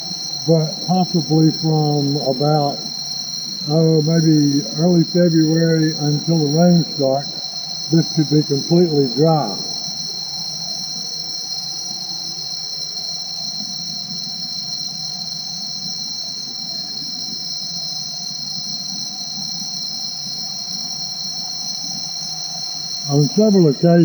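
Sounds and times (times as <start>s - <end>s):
tropical insects whining: 0.0s - 24.0s.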